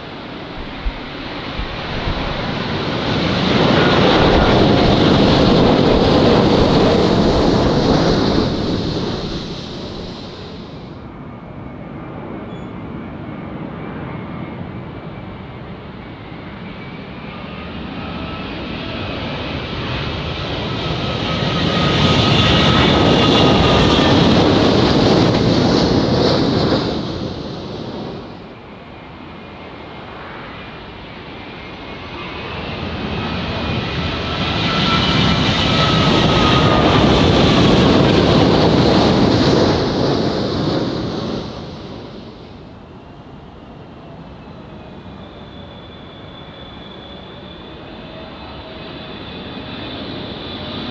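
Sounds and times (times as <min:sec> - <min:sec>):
jet airliner passing overhead: 0:00.0 - 0:50.9.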